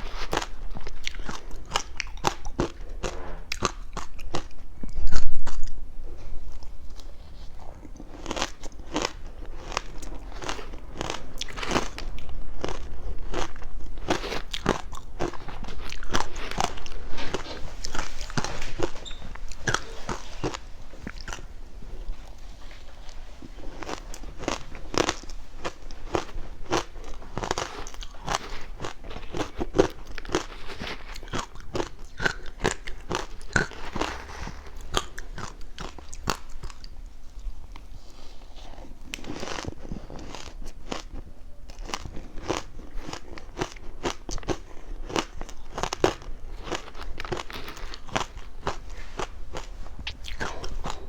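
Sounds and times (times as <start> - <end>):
ice being chewed: 0.0 - 5.8, 6.4 - 51.0.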